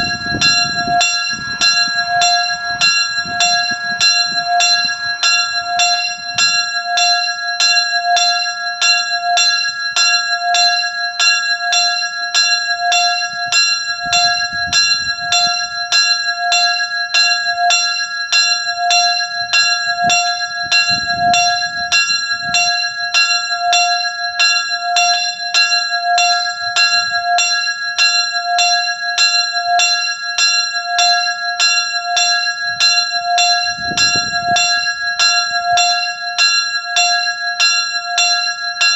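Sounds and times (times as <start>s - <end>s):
small church bell ringing: 0.0s - 38.9s.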